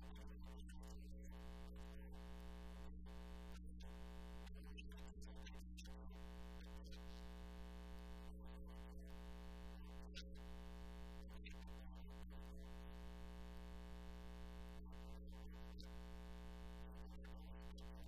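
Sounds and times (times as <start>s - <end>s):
faint low buzzing hum: 0.0s - 18.0s.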